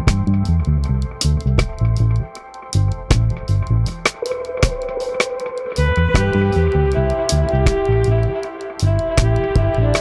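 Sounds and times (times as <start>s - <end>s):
pulsing bass line: 0.0s - 4.1s, 5.8s - 10.0s
drums with hi-hat: 0.0s - 10.0s
guitar: 0.0s - 10.0s.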